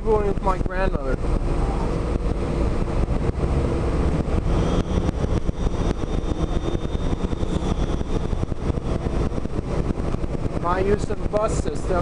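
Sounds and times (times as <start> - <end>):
bus diesel engine rumble: 0.0 - 12.0
faint high whine: 0.0 - 12.0.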